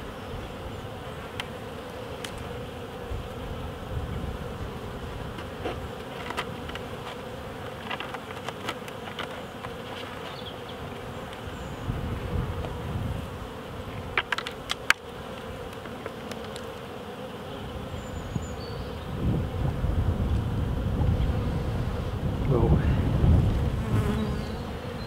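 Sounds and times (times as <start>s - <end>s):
honeybees buzzing: 0.0s - 25.0s.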